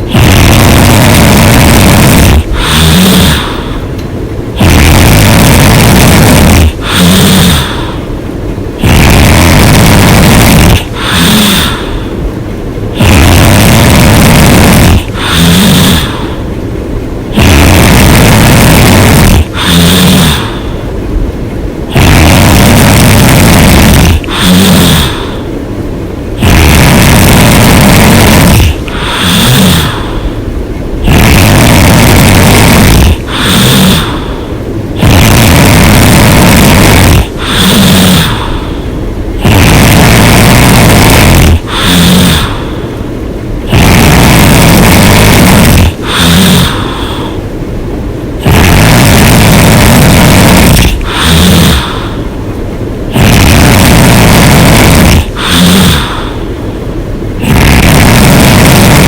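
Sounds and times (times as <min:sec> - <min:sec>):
woman snoring loudly: 0:00.0 - 0:03.8, 0:04.6 - 0:08.0, 0:08.8 - 0:12.1, 0:13.0 - 0:16.4, 0:17.3 - 0:20.7, 0:21.9 - 0:25.5, 0:26.4 - 0:30.3, 0:31.0 - 0:38.8, 0:39.4 - 0:42.8, 0:43.6 - 0:47.4, 0:48.4 - 0:52.3, 0:53.1 - 0:56.5, 0:57.4 - 0:59.0.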